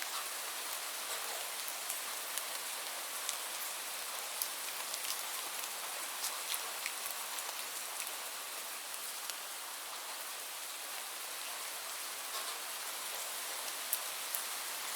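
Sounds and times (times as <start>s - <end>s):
steady rain hiss: 0.0s - 14.9s.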